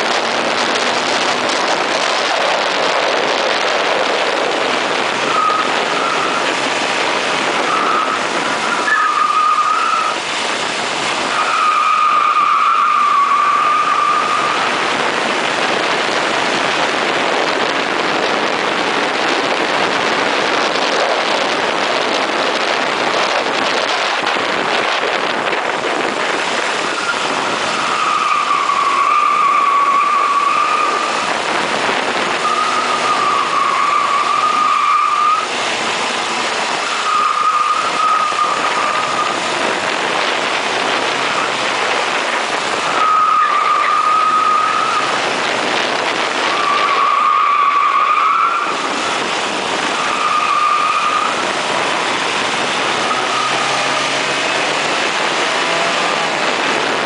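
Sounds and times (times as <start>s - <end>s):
car engine racing: 0.0s - 57.0s.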